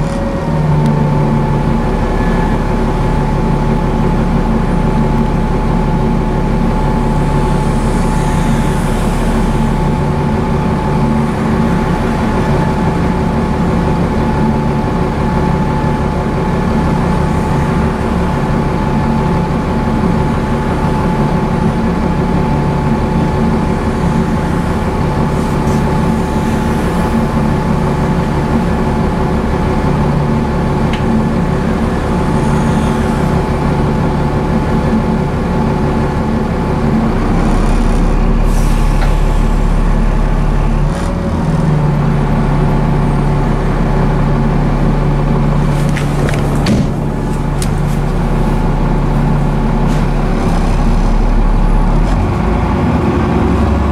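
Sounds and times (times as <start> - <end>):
bus engine drone: 0.0 - 53.9
gearbox whine: 0.0 - 53.9.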